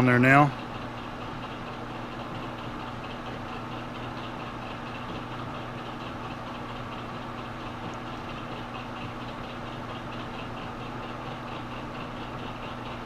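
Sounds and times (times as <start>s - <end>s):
faint ticking of lathe chuck: 0.5s - 13.0s.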